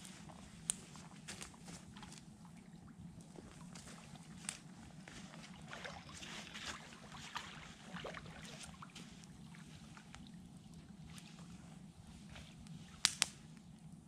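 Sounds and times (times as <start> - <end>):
shallow water splashing: 0.2 - 13.1.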